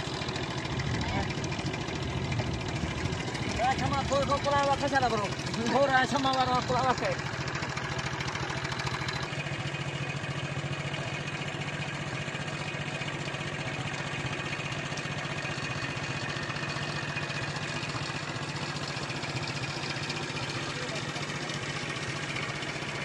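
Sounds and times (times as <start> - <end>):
small engine idling: 0.0 - 23.0.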